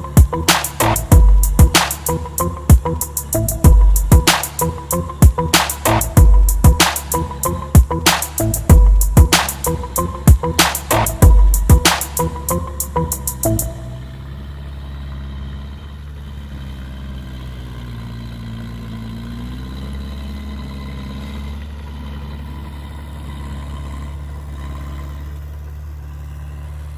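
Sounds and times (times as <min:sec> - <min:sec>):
diesel engine of heavy machinery: 0:00.0 - 0:26.9.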